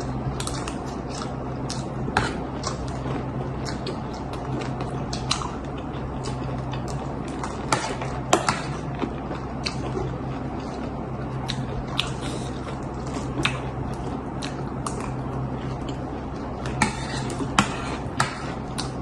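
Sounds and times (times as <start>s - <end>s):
crunching and chewing: 0.0s - 19.0s
steady low hum: 0.0s - 19.0s.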